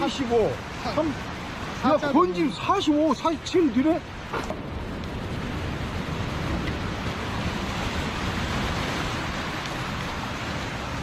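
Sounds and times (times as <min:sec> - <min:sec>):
sea surf breaking on rocks: 0:00.0 - 0:11.0.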